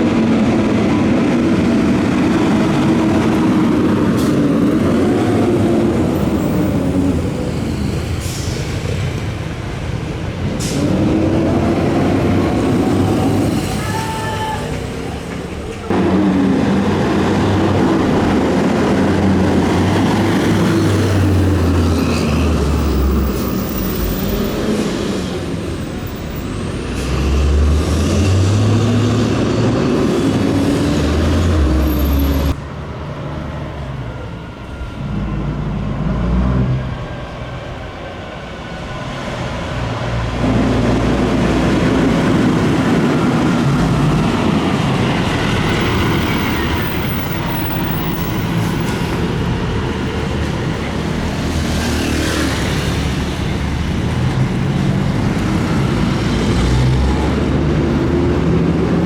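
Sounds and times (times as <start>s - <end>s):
fire truck diesel engines revving: 0.0s - 59.0s.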